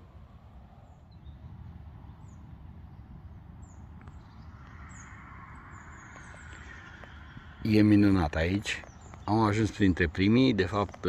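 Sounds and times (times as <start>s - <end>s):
bird chirping: 0.8s - 11.0s.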